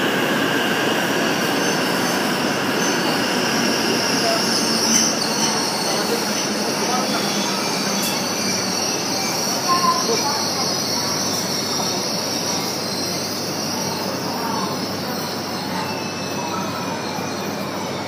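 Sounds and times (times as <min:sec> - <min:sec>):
train wheels rushing on rail: 0:00.0 - 0:18.0.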